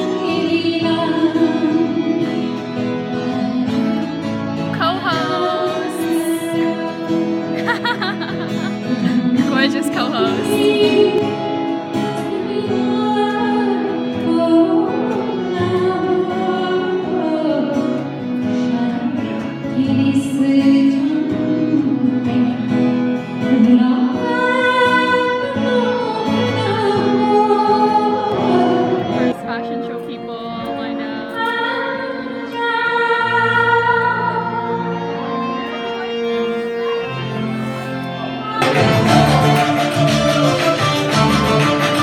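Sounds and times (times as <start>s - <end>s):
woman singing into microphone: 0.0s - 35.4s, 38.4s - 42.0s.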